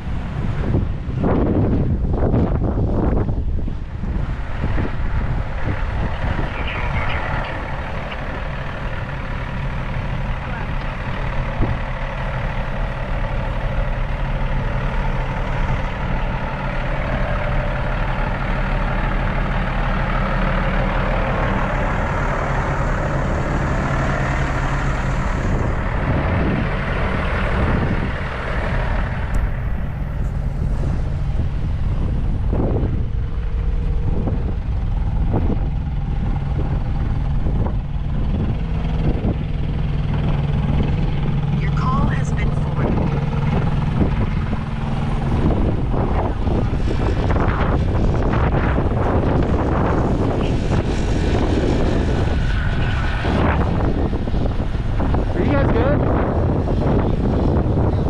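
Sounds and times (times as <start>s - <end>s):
broad rushing noise: 0.0s - 58.0s
truck engines idling: 0.0s - 58.0s.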